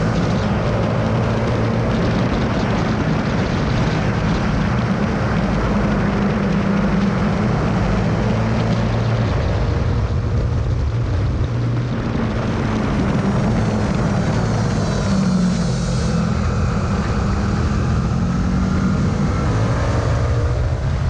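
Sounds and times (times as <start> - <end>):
motorcycle engine running hard: 0.0 - 21.0
wind rush over microphone: 0.0 - 21.0.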